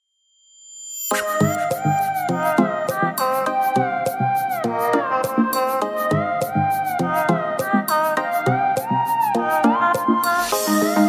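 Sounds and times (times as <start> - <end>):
gliding lead melody: 1.1 - 11.0.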